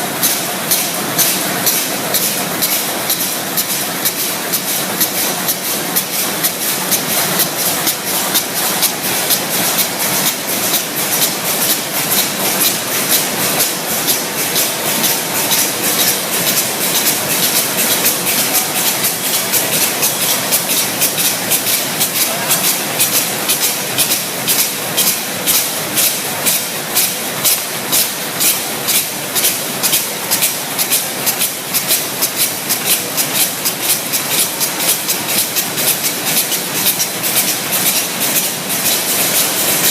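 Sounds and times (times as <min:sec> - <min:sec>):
machine mechanical clatter: 0:00.0 - 0:39.9
regular machine ticking: 0:00.0 - 0:39.9.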